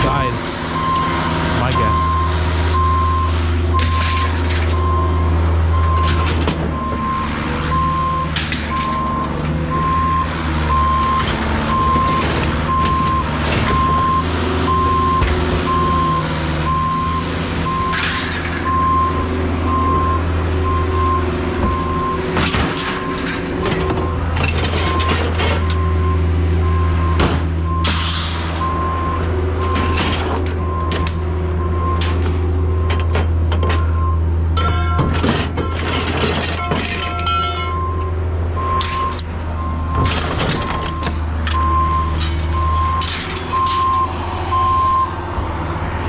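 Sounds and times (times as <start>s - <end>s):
vehicle backup alarm beeping: 0.0s - 45.2s
engine droning: 0.0s - 46.0s.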